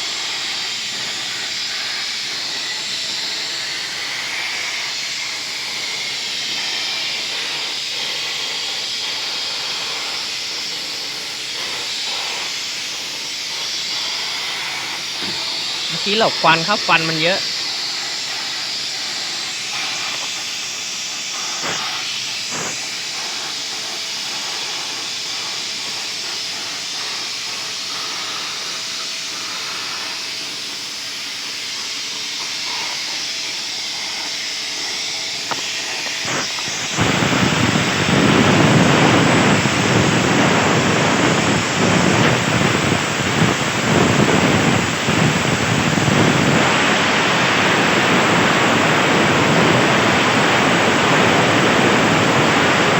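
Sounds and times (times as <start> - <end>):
plasma torch hissing: 0.1 - 52.9.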